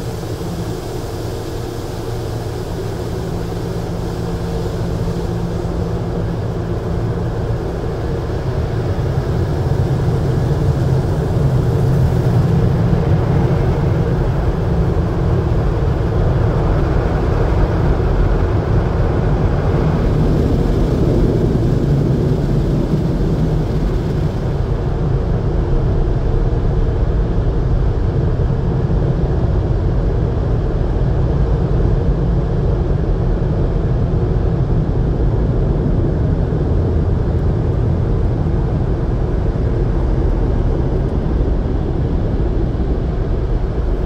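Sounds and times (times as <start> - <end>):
muffled air dryers blowing: 0.0 - 44.0.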